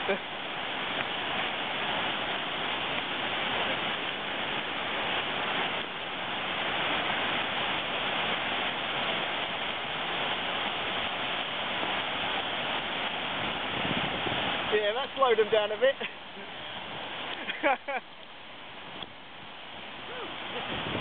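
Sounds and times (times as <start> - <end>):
water rushing over weir: 0.0 - 21.0.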